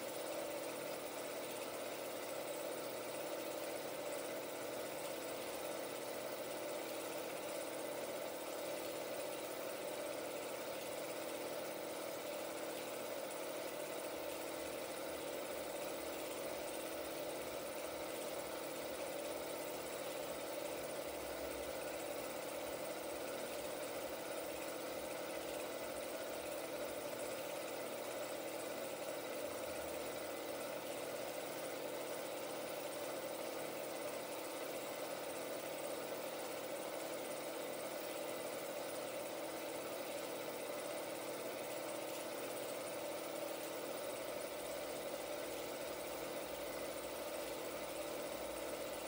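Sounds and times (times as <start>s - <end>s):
film projector whirring and ticking: 0.0s - 49.0s.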